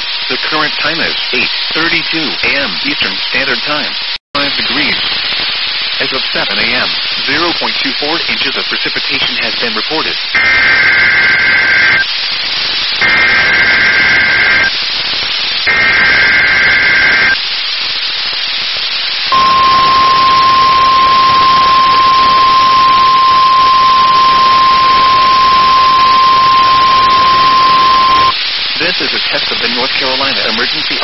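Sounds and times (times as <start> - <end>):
radio hiss: 0.0 - 31.0
two-tone data bursts: 0.3 - 12.1, 12.9 - 14.8, 15.7 - 17.4, 19.3 - 31.0.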